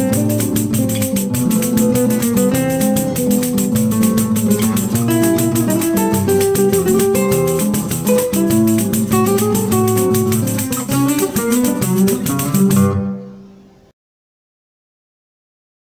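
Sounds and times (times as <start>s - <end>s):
plucked classical guitars: 0.0s - 13.9s.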